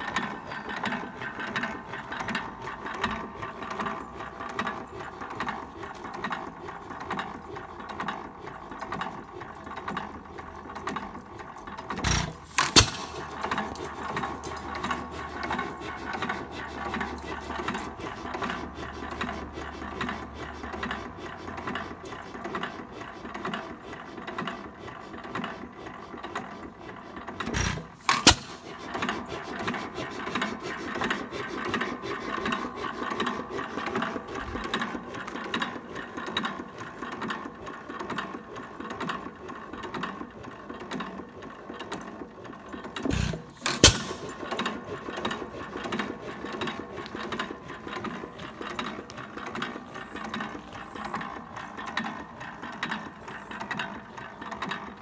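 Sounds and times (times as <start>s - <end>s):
engine valve gear clatter: 0.0s - 25.5s, 26.2s - 55.0s.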